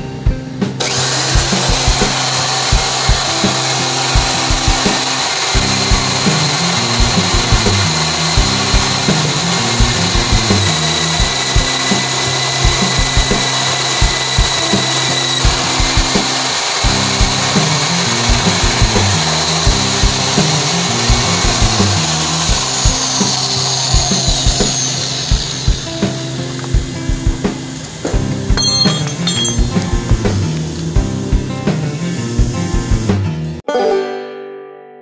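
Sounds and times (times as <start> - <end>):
background music with beat: 0.0 - 33.6
electric drill whining: 0.8 - 29.8.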